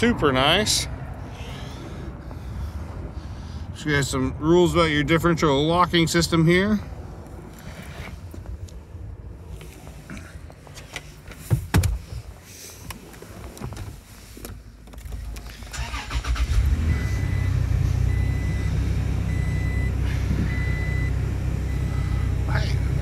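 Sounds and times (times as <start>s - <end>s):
car engine starting and idling: 0.0s - 23.0s.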